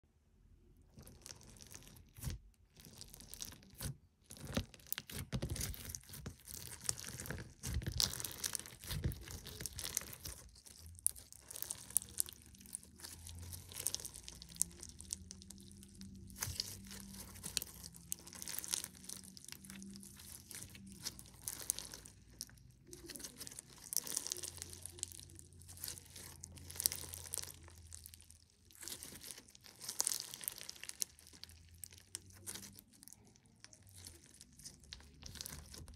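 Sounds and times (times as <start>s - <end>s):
crunchy slime crackling: 0.7s - 35.9s.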